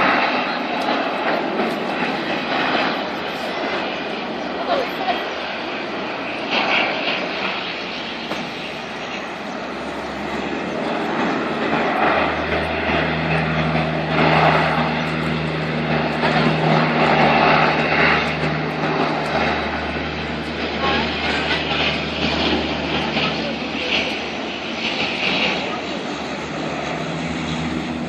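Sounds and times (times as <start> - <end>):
propeller plane engines droning: 0.0 - 28.0.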